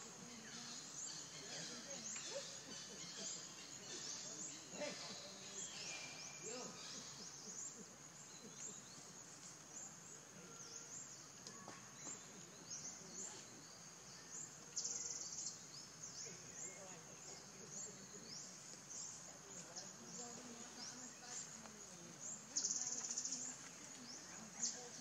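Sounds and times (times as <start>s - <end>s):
faint low murmur: 0.0s - 25.0s
high rising chirps of insects and birds: 0.0s - 25.0s.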